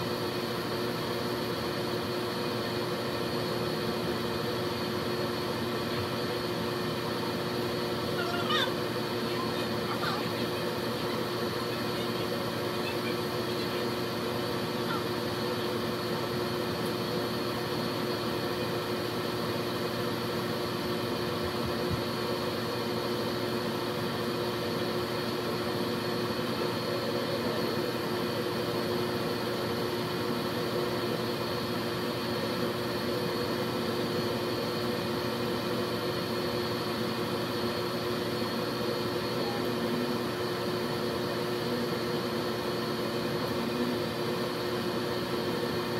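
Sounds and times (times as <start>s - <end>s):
laser engraver humming: 0.0s - 45.9s.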